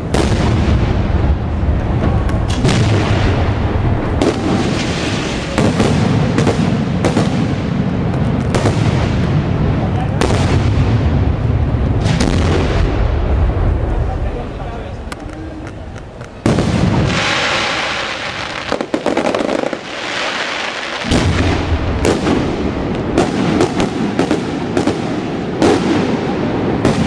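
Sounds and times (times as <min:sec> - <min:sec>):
sharp loud firework reports: 0:00.0 - 0:15.6, 0:16.3 - 0:27.0
rumble of firework bursts: 0:00.0 - 0:27.0.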